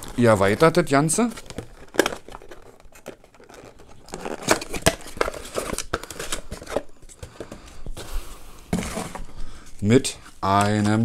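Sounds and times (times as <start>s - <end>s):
cardboard and paper crinkling: 0.0s - 8.1s, 8.7s - 11.0s.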